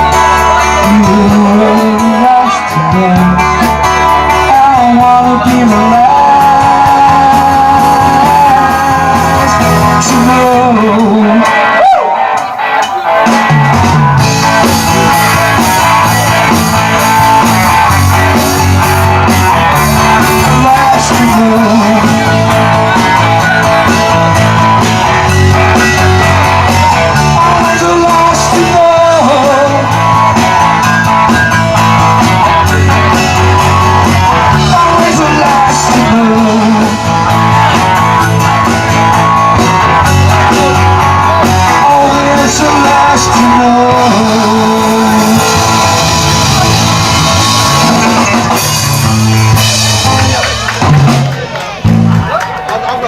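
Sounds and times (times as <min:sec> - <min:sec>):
person singing: 0:00.0 - 0:48.7
bass guitar: 0:00.0 - 0:53.0
drums: 0:00.0 - 0:53.0
electric guitar: 0:00.0 - 0:53.0.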